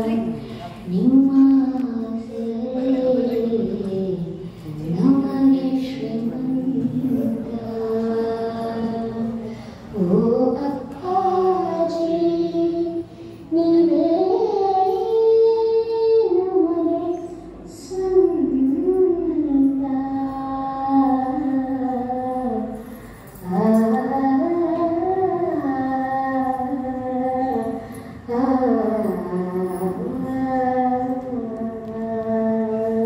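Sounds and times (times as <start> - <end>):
voices chanting slowly: 0.0 - 33.0.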